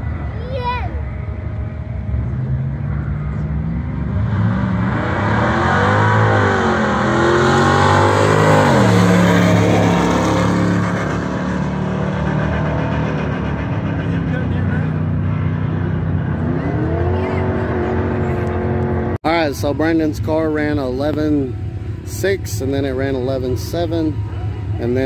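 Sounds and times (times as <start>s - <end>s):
drag car engines at full throttle: 0.0s - 25.0s.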